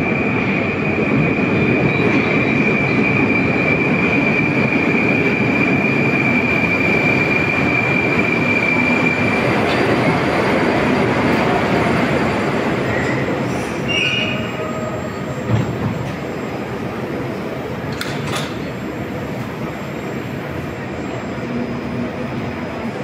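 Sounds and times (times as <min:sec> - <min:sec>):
high squeal of train: 0:00.0 - 0:23.0
train cars rumbling: 0:00.0 - 0:23.0.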